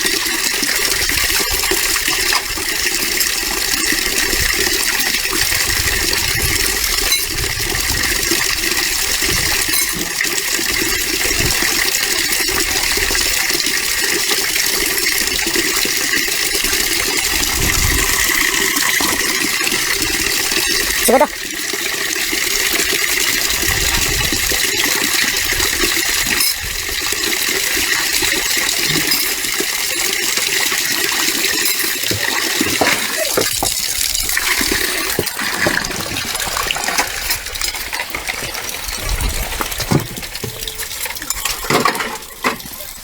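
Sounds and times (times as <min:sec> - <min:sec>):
running water rushing: 0:00.0 - 0:43.0.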